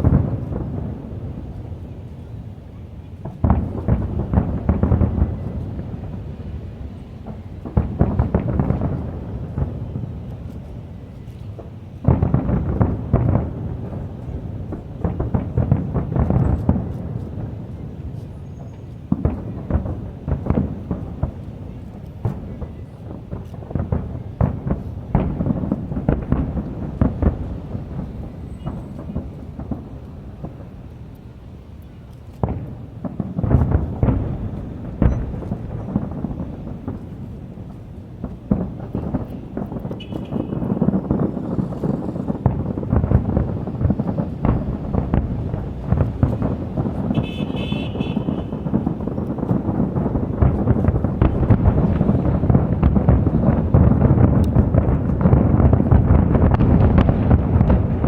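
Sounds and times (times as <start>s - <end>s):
fireworks deep bangs: 0.0s - 58.0s
fireworks rumbling: 0.0s - 58.0s.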